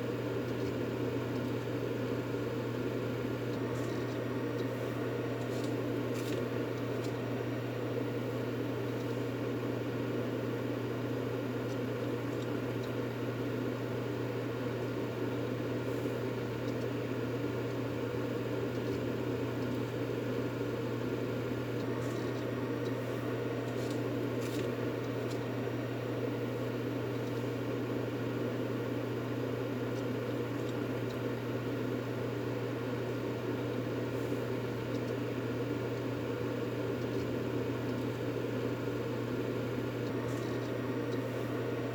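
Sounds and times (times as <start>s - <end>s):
steady white noise hiss: 0.0s - 41.9s.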